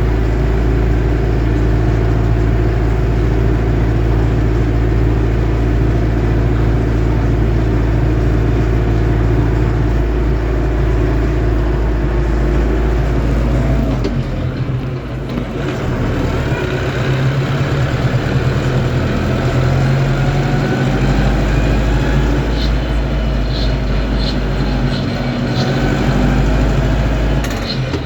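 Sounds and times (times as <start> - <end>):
gearbox whine: 0.0 - 28.0
tractor engine running: 0.0 - 28.0.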